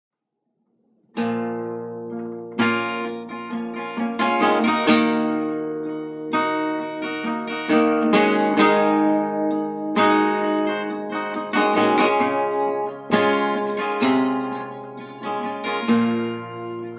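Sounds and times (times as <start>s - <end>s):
acoustic guitar strumming: 1.1s - 16.9s.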